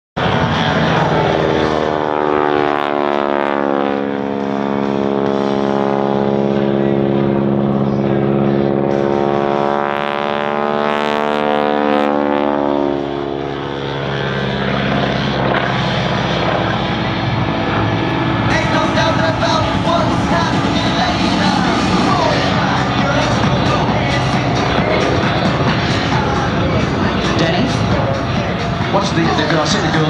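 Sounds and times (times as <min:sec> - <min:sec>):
biplane engine and propeller: 0:00.2 - 0:30.0.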